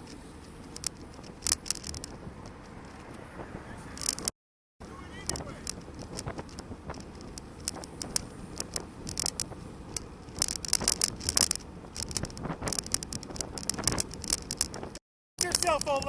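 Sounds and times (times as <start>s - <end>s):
sharp clicks and rattles: 0.0s - 3.2s, 3.9s - 4.3s, 4.9s - 16.0s
road and wind rumble: 0.0s - 16.0s.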